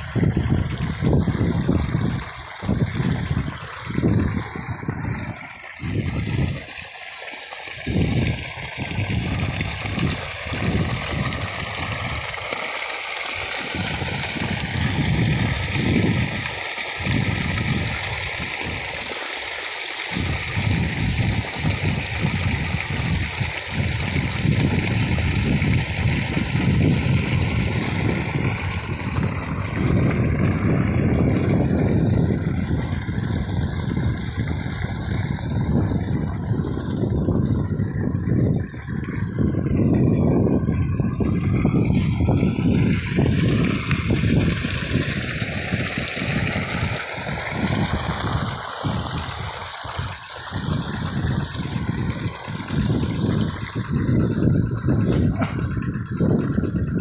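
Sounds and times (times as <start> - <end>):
wind rumbling on microphone: 0.0 - 6.9, 7.7 - 57.0
water gushing from a pipe: 0.0 - 57.0.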